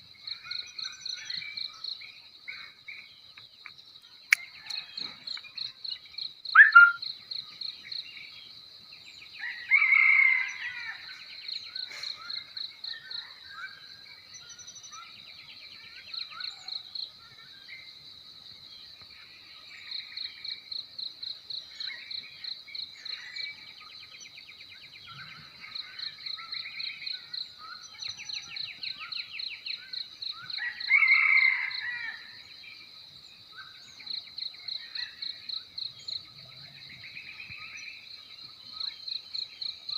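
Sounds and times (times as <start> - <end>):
birds calling and twittering: 0.0 - 39.9
crickets chirping: 0.0 - 39.9.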